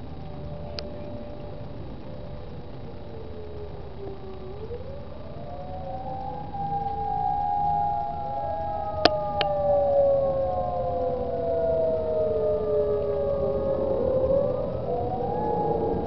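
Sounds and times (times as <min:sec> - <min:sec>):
warning sirens wailing: 0:00.0 - 0:16.0.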